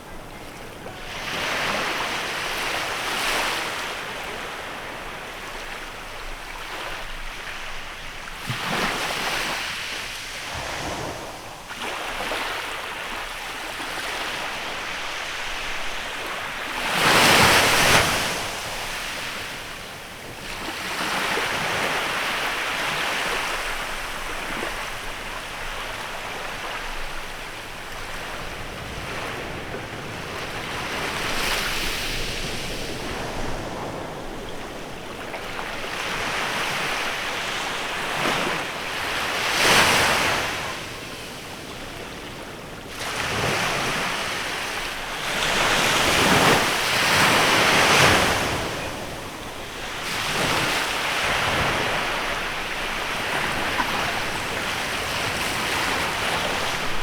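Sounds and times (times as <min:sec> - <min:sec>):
sea waves breaking on beach: 0:01.0 - 0:57.0.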